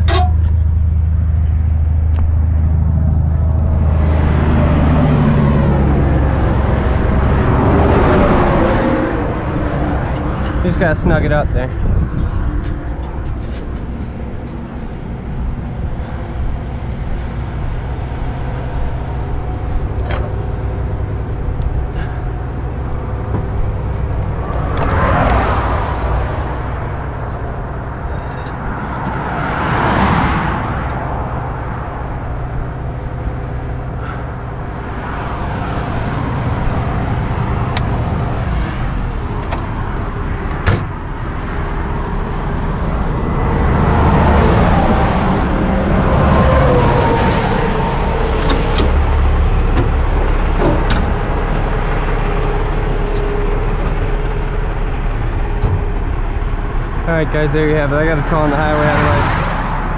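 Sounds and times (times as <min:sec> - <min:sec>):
truck engine idling: 0:00.0 - 0:29.4, 0:30.5 - 0:59.9
vehicles passing at speed: 0:00.0 - 0:59.9.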